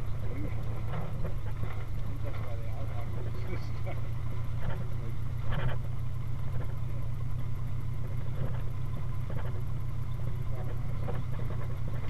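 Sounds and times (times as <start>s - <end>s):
old car engine running: 0.0s - 12.0s.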